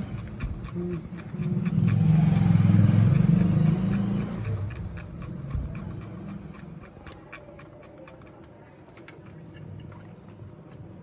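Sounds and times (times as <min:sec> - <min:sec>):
steady light ticking: 0:00.0 - 0:09.4.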